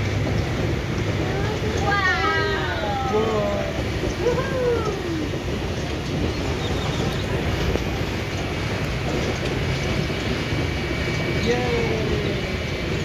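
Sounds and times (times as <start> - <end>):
ferris wheel low rumble: 0.0 - 13.0.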